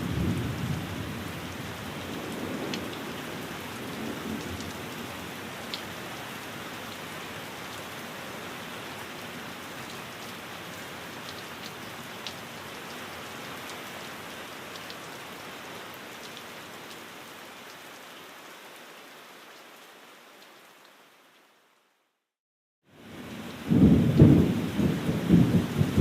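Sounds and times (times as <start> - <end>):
steady rain falling: 0.0 - 22.3, 22.9 - 26.0.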